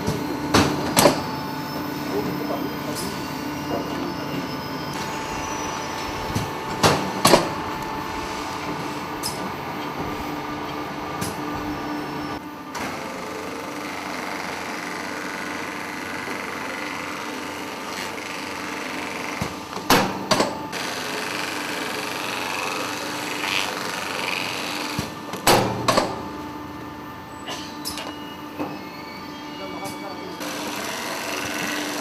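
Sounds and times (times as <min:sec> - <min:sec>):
packaging machine humming: 0:00.0 - 0:32.0.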